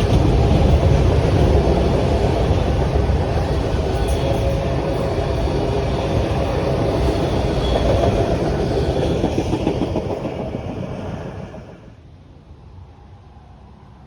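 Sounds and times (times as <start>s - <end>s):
train rolling past: 0.0s - 12.1s.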